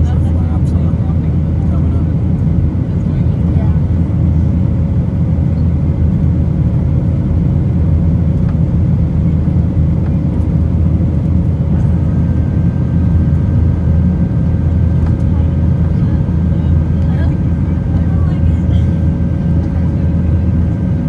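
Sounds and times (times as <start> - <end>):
jet engine cabin roar: 0.0 - 21.0.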